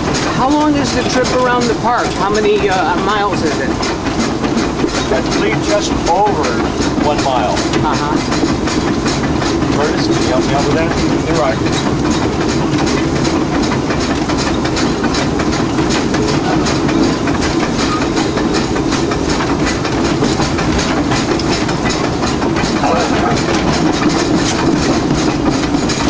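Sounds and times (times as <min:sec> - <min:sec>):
constant low rumble: 0:00.0 - 0:26.0
steam locomotive exhaust chuffs: 0:00.0 - 0:26.0
wheel clatter on rails: 0:00.0 - 0:26.0.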